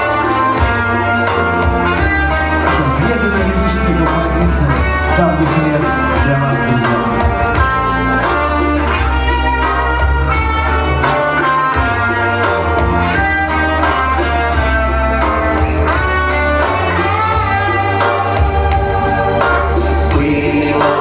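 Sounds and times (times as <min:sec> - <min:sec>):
guitar melody: 0:00.0 - 0:21.0
steady drum beat: 0:00.0 - 0:21.0
sustained bass notes: 0:00.0 - 0:21.0.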